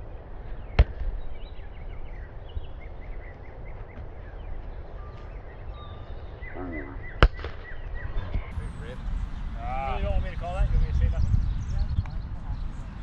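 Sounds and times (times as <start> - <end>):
low outdoor background noise: 0.0 - 13.0
birds chirping: 0.5 - 13.0.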